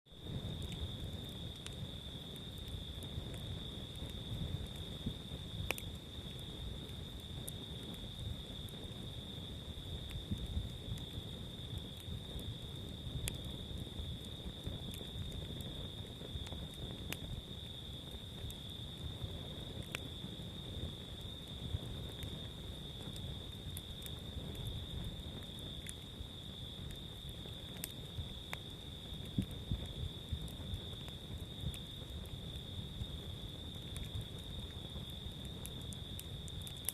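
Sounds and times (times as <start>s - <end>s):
campfire crackling and popping: 0.1s - 36.9s
insect trill: 0.2s - 36.9s.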